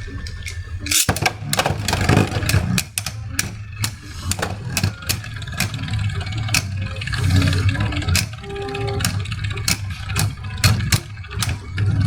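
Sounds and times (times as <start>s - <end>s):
spinning tops whirring: 0.0s - 12.0s
steady low hum: 0.0s - 12.0s.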